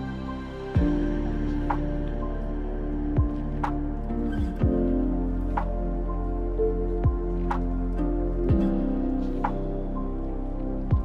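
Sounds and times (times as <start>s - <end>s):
ambient new-age music: 0.0s - 11.0s.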